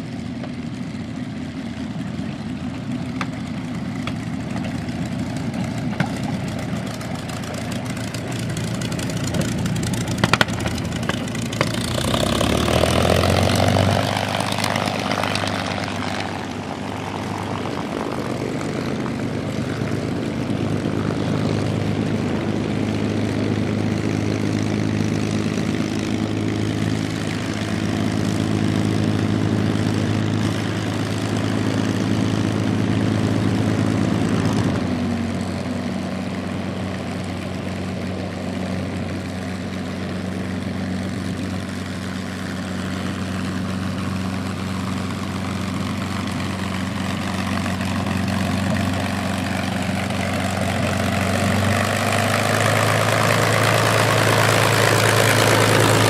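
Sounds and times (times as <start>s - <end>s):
engine rush: 0.0s - 56.0s
piston aircraft engine idling: 0.0s - 56.0s.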